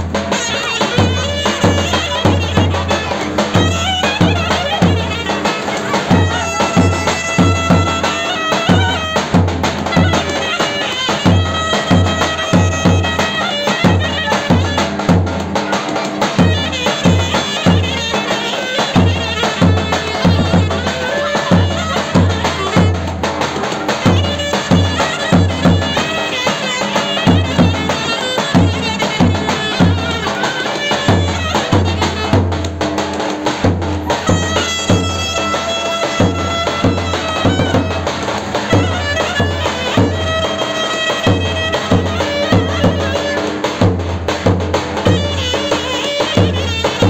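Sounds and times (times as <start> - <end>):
clarinet playing folk melody: 0.0 - 47.0.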